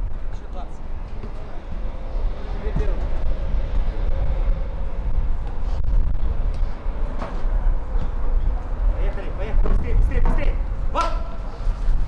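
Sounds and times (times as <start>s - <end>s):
low rumble of outdoor noise: 0.0s - 12.0s.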